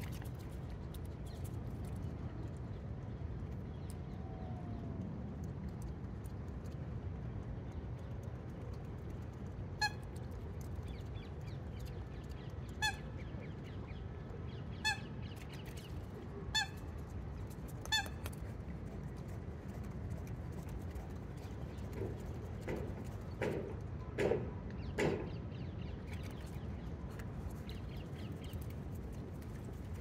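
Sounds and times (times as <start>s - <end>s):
low background noise: 0.0s - 30.0s.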